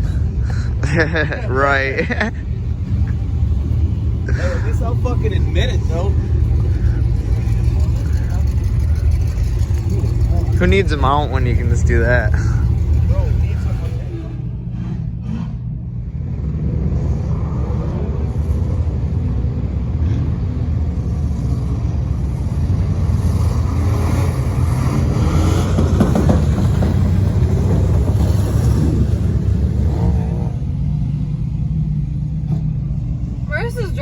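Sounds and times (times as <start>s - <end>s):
truck engine rumbling: 0.0s - 34.0s.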